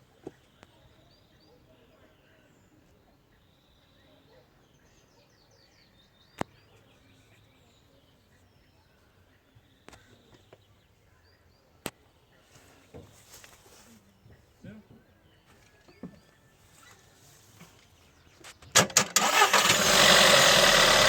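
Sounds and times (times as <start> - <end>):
birds chirping faintly: 0.0 - 18.8.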